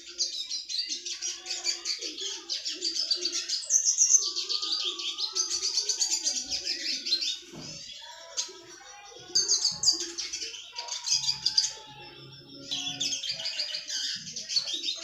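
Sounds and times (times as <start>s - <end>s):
songbird rapid chirps and trills: 0.0s - 15.0s.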